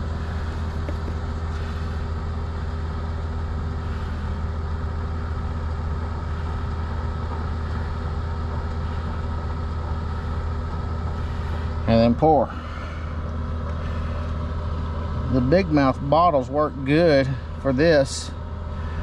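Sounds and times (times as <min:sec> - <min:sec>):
heavy equipment engine droning: 0:00.0 - 0:19.0.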